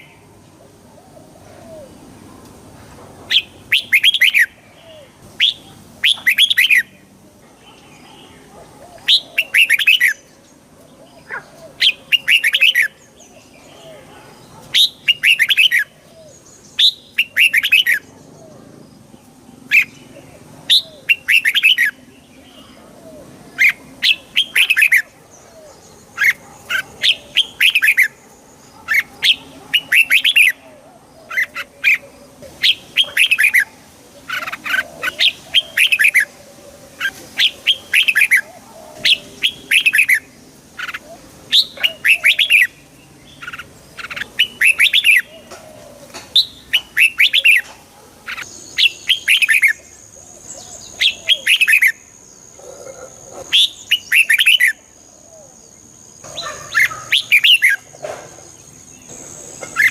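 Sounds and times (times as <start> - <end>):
bulbul singing: 3.3 - 58.0.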